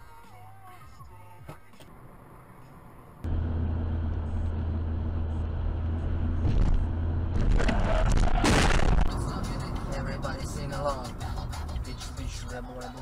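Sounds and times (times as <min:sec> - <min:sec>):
car engine and tyres droning: 0:00.1 - 0:13.0.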